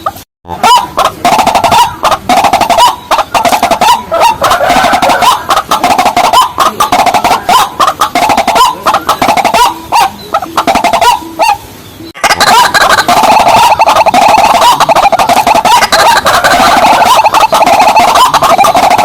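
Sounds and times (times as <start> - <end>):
rails calling: 0.0 - 19.0.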